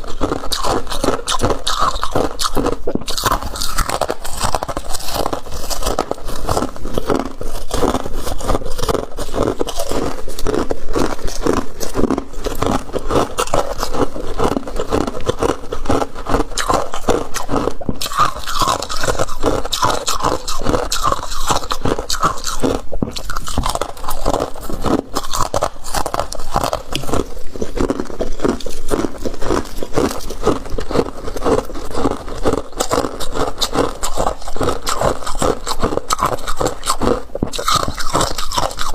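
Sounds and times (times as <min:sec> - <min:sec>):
freezer frost crunching and scraping: 0:00.0 - 0:38.9.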